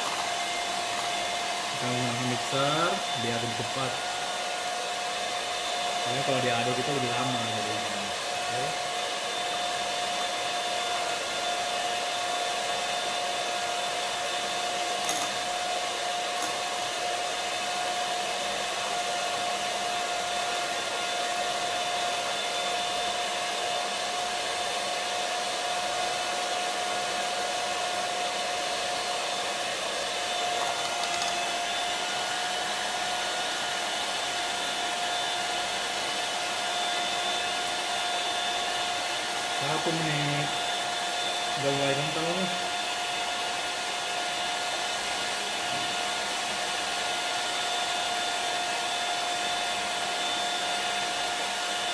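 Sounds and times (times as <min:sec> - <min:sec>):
electric hand mixer whining: 0:00.0 - 0:51.9.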